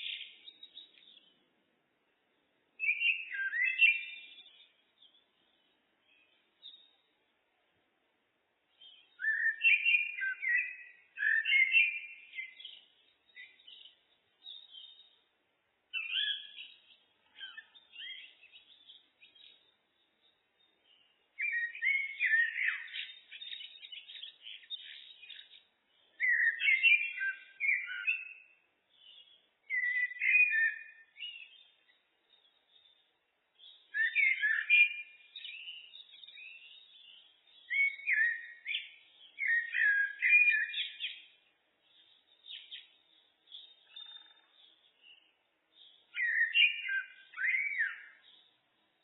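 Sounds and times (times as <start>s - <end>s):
blackbird singing: 0.0s - 1.4s, 2.8s - 7.2s, 8.7s - 15.3s, 15.9s - 49.0s.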